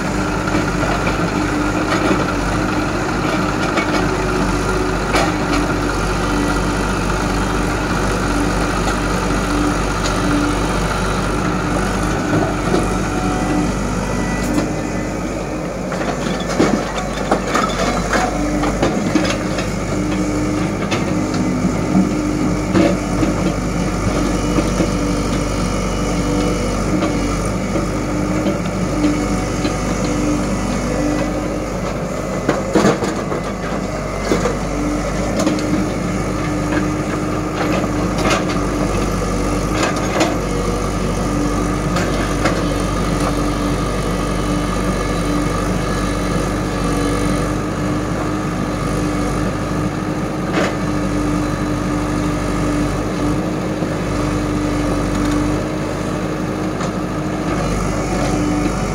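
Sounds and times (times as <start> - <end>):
excavator diesel engine: 0.0 - 58.9.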